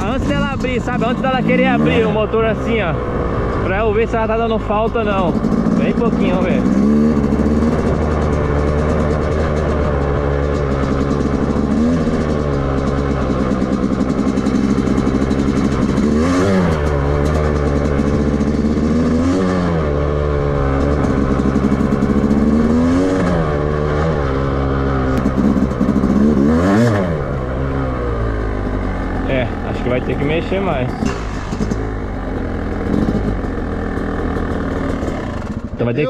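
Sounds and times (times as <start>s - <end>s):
two-stroke engine revving: 0.0s - 36.0s.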